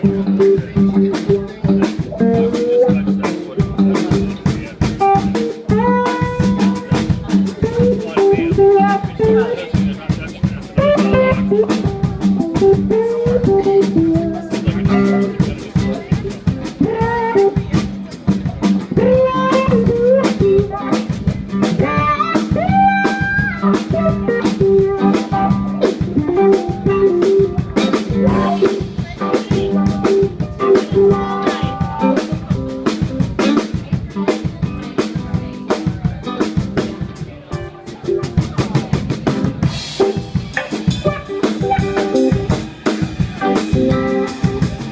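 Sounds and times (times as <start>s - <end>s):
bass line: 0.0s - 44.9s
drum kit beat: 0.0s - 44.9s
electric guitar lead: 0.0s - 44.9s.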